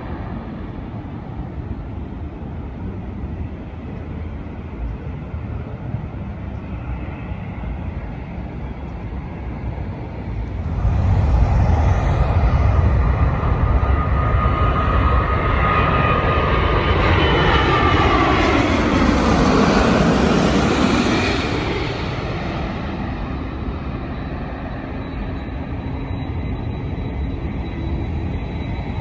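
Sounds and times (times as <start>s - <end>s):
high jet engine whine: 0.0s - 29.0s
jet engines rumbling: 0.0s - 29.0s.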